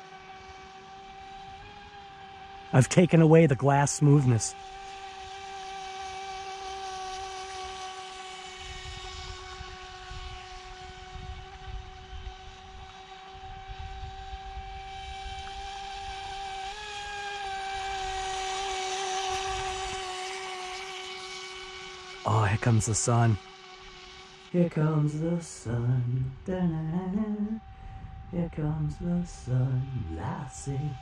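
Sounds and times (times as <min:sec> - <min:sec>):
rc boat motor whining: 0:00.0 - 0:31.0.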